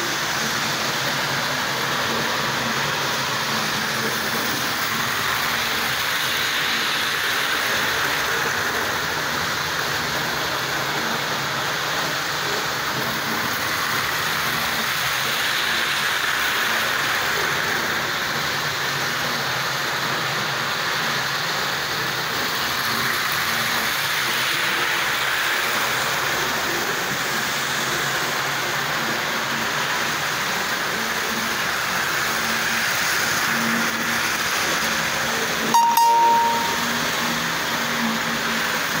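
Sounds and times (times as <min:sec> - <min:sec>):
model train motors whirring: 0:00.0 - 0:35.8, 0:36.6 - 0:39.0
wheels rolling on rails: 0:00.0 - 0:35.8.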